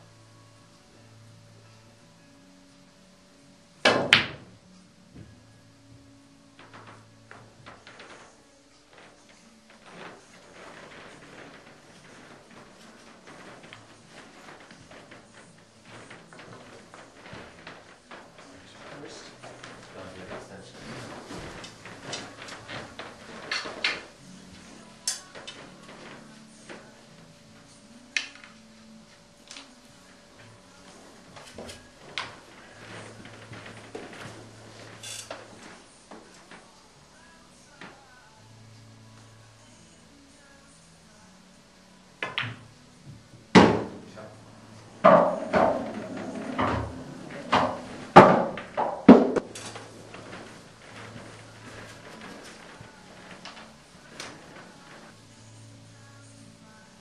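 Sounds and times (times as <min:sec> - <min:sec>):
low steady hum: 0:00.0 - 0:57.0
pool balls and cue clacking: 0:03.8 - 0:38.5, 0:42.1 - 0:55.9.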